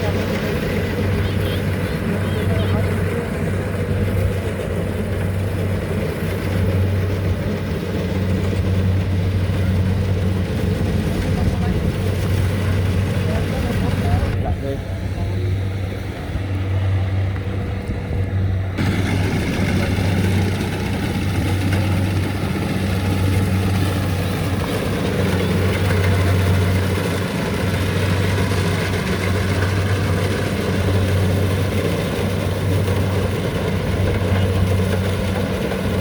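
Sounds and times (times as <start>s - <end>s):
combine harvester engine hum: 0.0s - 36.0s
mechanical rush: 0.0s - 36.0s.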